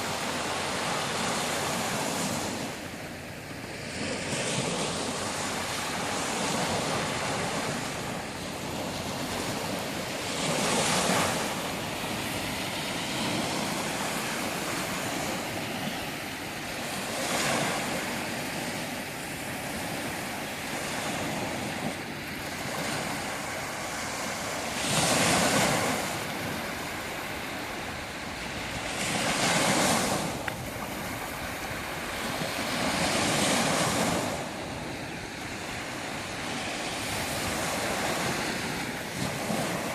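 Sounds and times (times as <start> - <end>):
sea waves breaking: 0.0 - 39.9
steady wash of water: 0.0 - 39.9.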